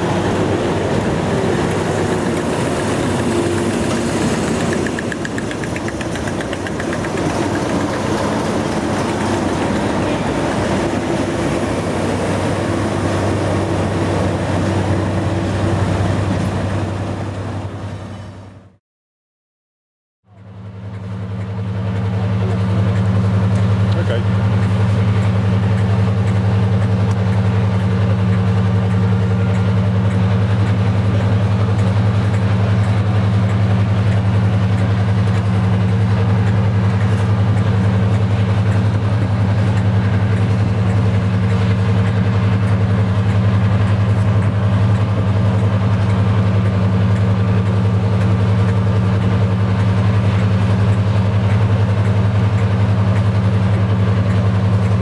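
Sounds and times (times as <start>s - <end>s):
diesel locomotive engine running: 0.0s - 18.8s, 20.3s - 55.0s.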